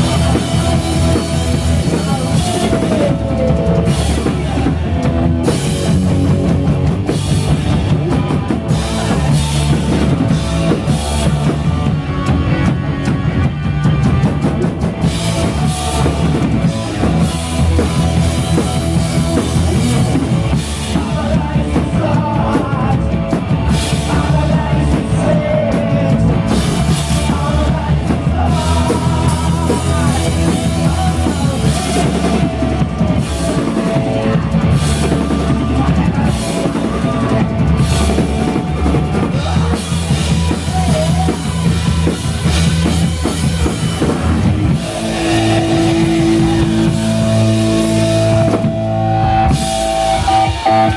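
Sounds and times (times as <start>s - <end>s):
distorted electric guitars: 0.0s - 50.9s
live punk rock band: 0.0s - 50.9s
pounding drum kit: 0.0s - 50.9s
ringing guitar and bass notes: 0.0s - 50.9s.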